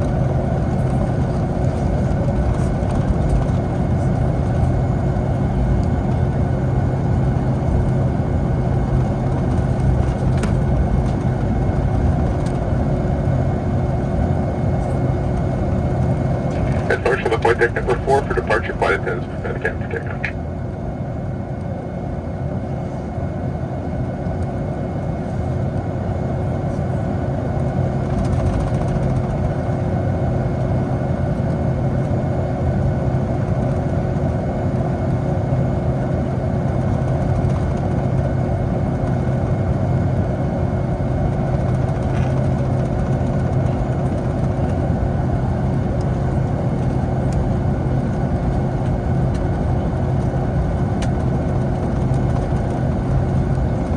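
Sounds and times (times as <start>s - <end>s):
jet engines heard inside cabin: 0.0s - 53.9s.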